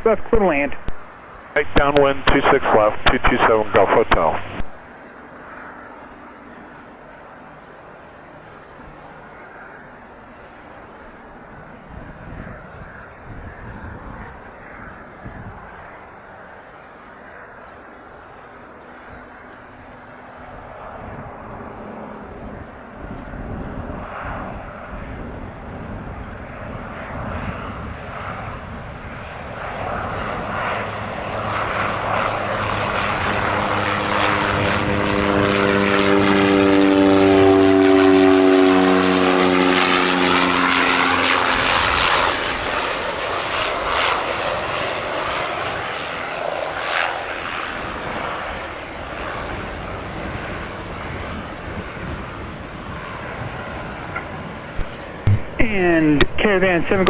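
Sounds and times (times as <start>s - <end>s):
propeller plane passing: 0.0s - 57.0s.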